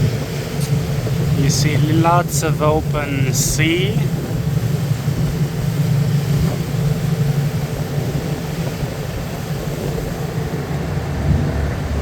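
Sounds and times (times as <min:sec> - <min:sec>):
ferry engine droning: 0:00.0 - 0:12.0
wind and water hiss: 0:00.0 - 0:12.0.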